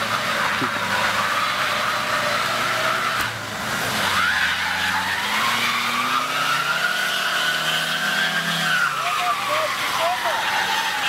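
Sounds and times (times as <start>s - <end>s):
car engine revving: 0.0s - 11.0s
car wheels spinning on ice: 0.0s - 11.0s.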